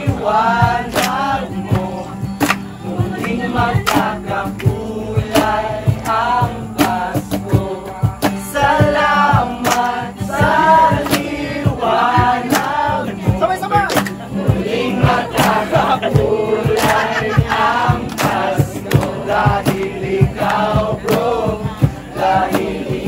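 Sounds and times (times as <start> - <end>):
group of men singing: 0.0 - 23.0
steady beat with sharp hits: 0.0 - 23.0.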